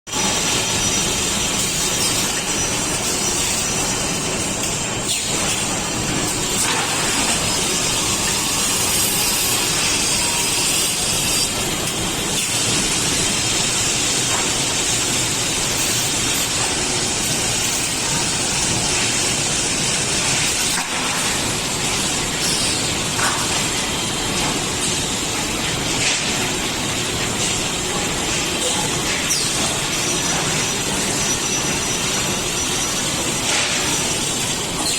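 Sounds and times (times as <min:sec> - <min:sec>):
machine noise with hiss: 0:00.1 - 0:34.9.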